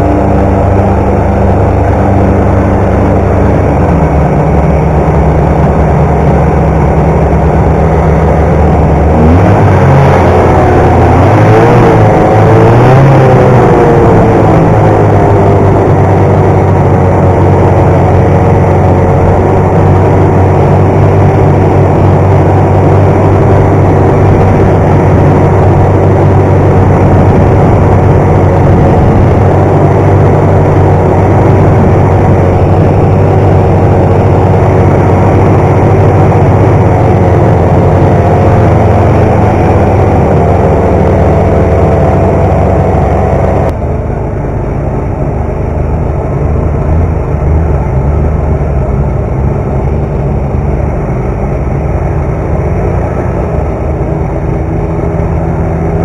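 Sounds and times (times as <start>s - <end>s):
snowmobile engine running: 0.0s - 56.0s
wind on microphone: 0.0s - 56.0s.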